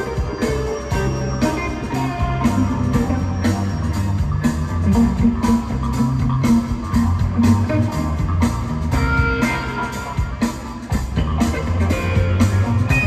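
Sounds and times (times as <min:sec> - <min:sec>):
bass guitar: 0:00.0 - 0:13.0
drums keeping a steady beat: 0:00.0 - 0:13.0
electric guitar: 0:00.0 - 0:13.0.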